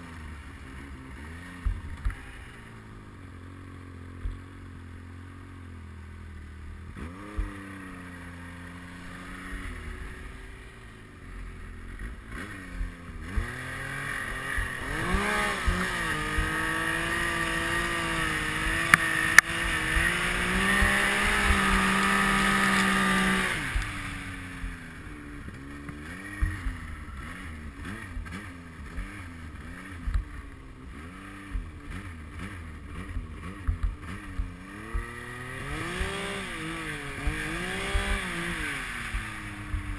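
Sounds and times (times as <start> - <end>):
snowmobile engine: 0.0 - 39.9.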